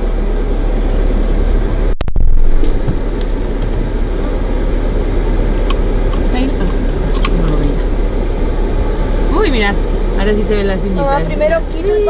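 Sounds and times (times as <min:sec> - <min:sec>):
car interior rumble and hiss: 0:00.0 - 0:12.0.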